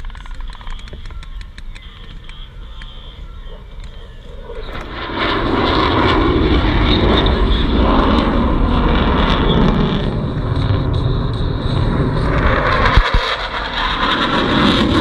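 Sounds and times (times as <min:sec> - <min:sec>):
aircraft engine flying past: 0:00.0 - 0:15.0.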